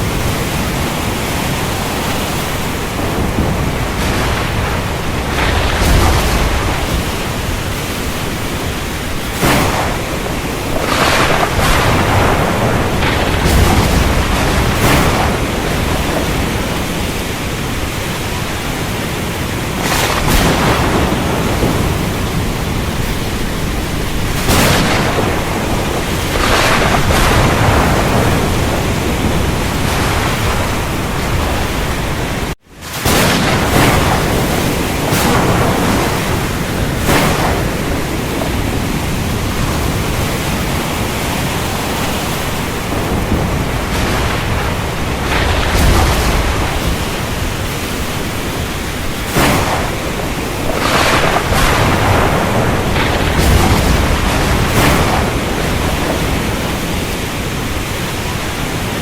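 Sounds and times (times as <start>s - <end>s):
heavy rain downpour: 0.0s - 59.0s
thunder cracks and rumbles: 0.0s - 59.0s.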